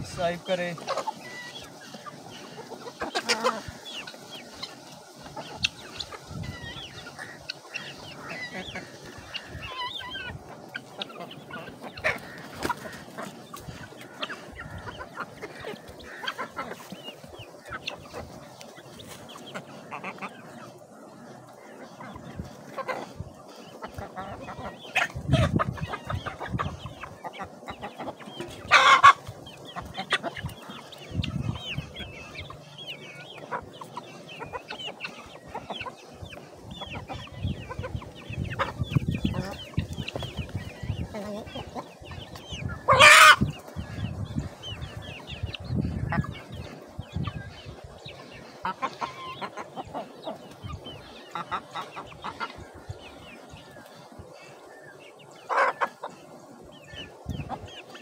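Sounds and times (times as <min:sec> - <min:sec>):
chickens clucking and chirping: 0:00.0 - 0:58.0.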